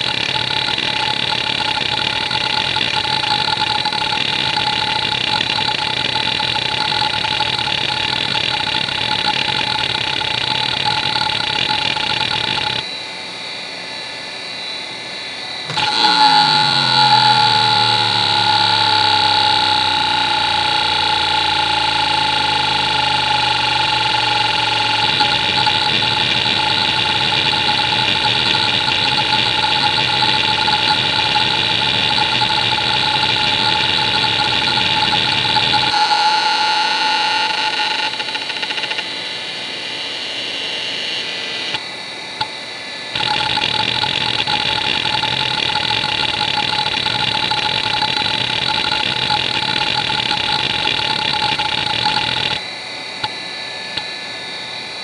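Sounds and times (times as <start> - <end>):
hard drive seeking buzz: 0.0 - 13.2, 14.5 - 55.0
hard drive spindle whine: 0.0 - 55.0.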